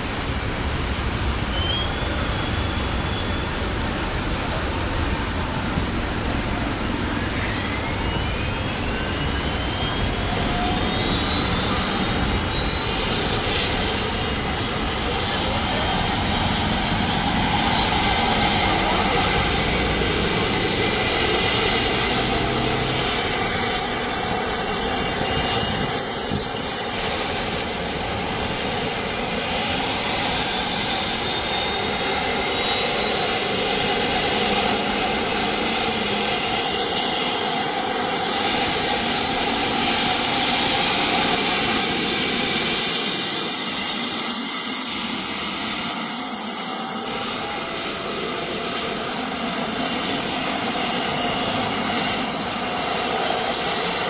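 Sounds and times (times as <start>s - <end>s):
helicopter turbine and rotor: 0.0s - 54.0s.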